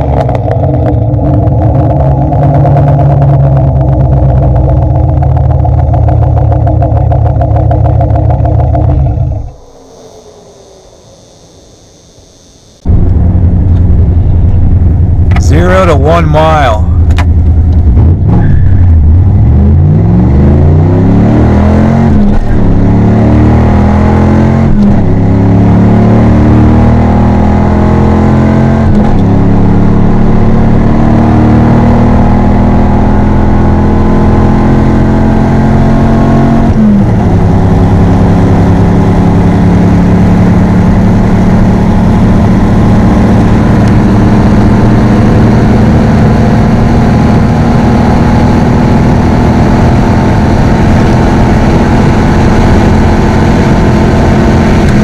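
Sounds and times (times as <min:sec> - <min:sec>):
car engine accelerating hard: 0:00.0 - 0:11.5, 0:12.8 - 0:55.0.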